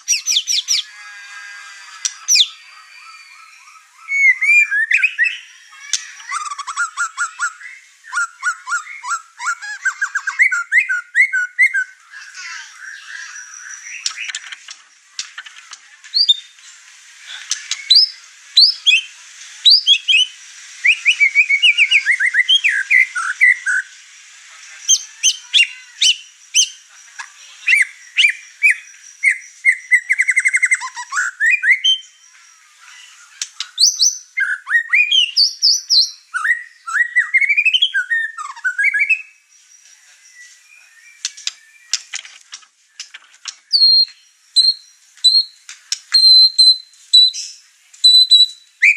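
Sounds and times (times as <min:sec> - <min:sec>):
songbird singing with trills: 0:00.0 - 0:01.1, 0:01.8 - 0:14.6, 0:16.1 - 0:16.6, 0:17.4 - 0:24.0, 0:24.9 - 0:42.2, 0:43.0 - 0:48.9.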